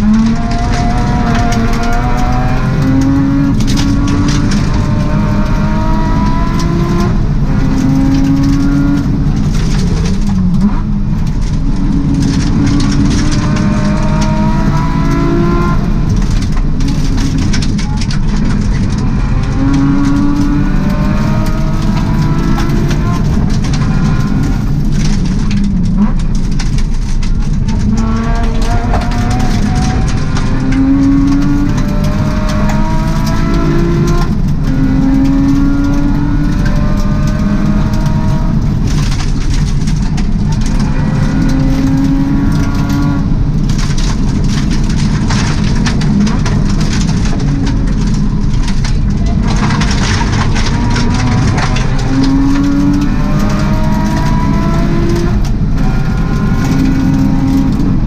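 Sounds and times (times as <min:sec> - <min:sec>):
gravel road noise: 0:00.0 - 0:58.0
rally car engine revving: 0:00.0 - 0:58.0.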